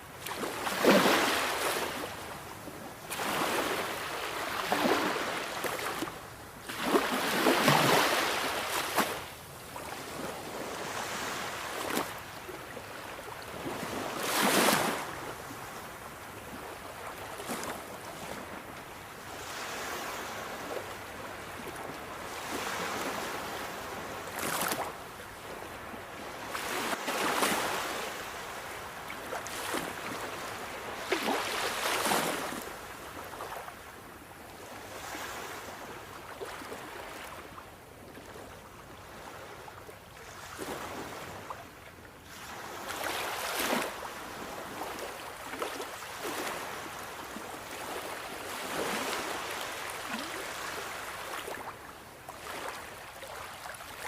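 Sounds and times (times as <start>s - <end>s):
sea waves breaking on shore: 0.2s - 34.0s, 34.6s - 37.6s, 39.0s - 41.7s, 42.3s - 54.0s.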